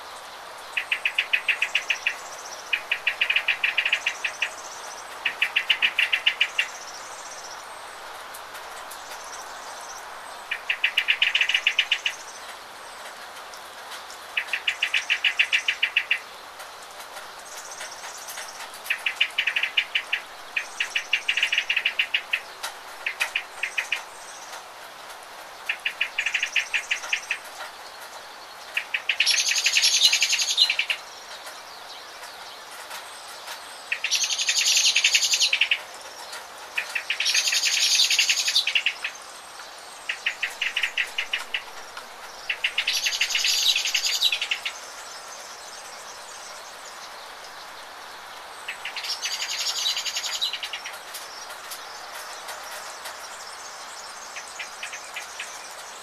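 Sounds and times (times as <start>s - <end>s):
birds singing: 0.0s - 56.0s
rain hissing: 0.0s - 56.0s.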